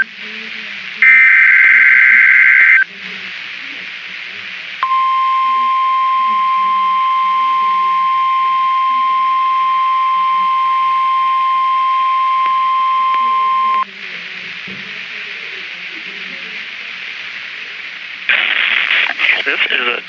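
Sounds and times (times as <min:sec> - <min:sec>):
radio hiss: 0:00.0 - 0:20.0.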